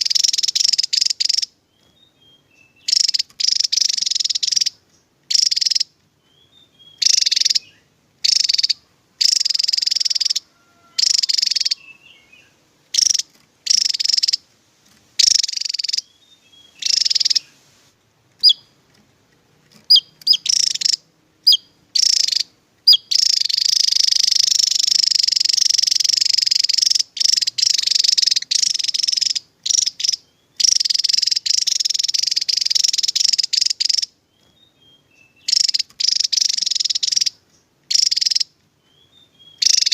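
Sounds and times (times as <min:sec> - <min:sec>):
bird singing high trills: 0:00.0 - 0:14.4, 0:15.2 - 0:17.6, 0:18.4 - 0:18.8, 0:19.8 - 0:39.9
sharp bird notes: 0:00.0 - 0:14.4, 0:15.2 - 0:17.6, 0:18.4 - 0:18.8, 0:19.8 - 0:39.9.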